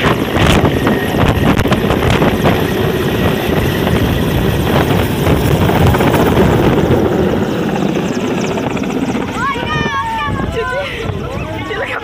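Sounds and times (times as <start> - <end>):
helicopter flying overhead: 0.0 - 12.0.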